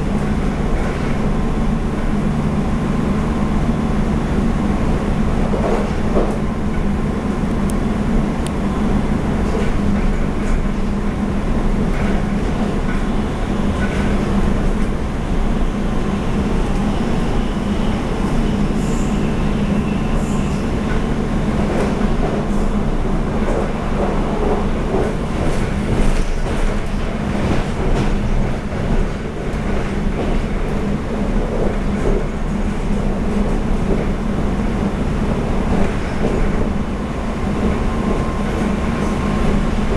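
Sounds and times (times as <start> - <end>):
wheels rumbling on rails: 0.0 - 39.9.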